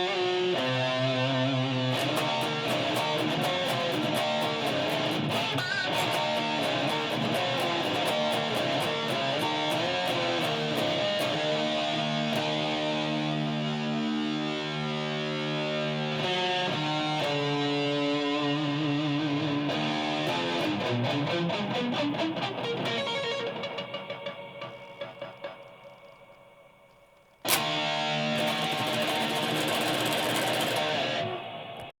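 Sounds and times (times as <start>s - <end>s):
electric guitar riff: 0.0s - 31.9s.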